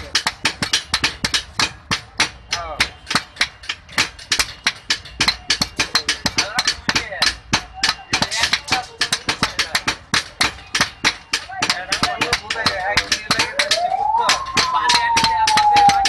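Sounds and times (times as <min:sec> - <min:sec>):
hammers striking hot metal on anvil: 0:00.0 - 0:16.0.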